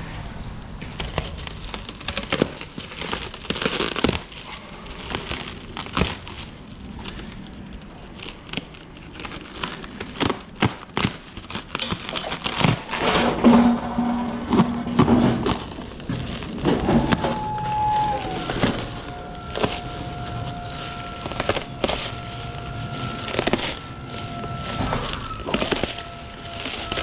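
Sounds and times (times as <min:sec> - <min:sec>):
packaging crinkling and rustling: 0:00.4 - 0:27.0.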